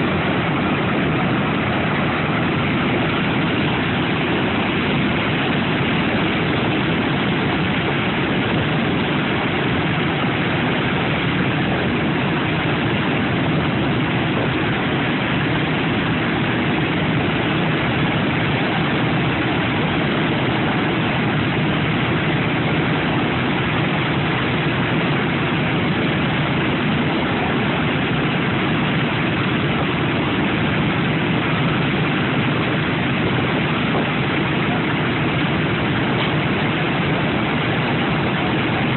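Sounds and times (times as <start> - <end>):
radial piston engines idling: 0.0 - 38.9.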